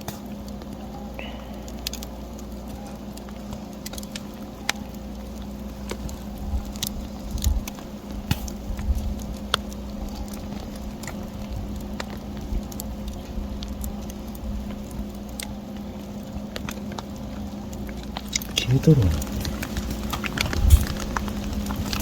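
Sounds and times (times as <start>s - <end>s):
faint low hum: 0.0s - 22.0s
sharp pops and snaps: 0.0s - 22.0s
wood fire crackling: 0.0s - 22.0s.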